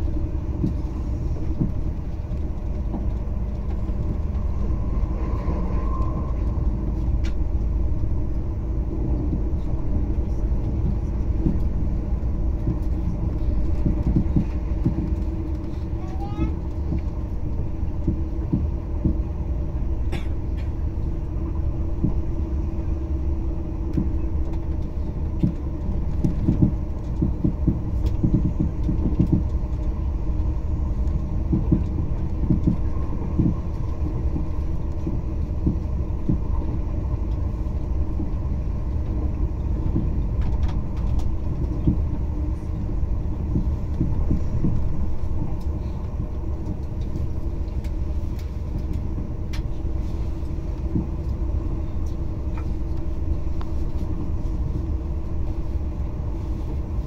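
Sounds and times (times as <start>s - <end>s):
train rumble inside cabin: 0.0s - 57.0s.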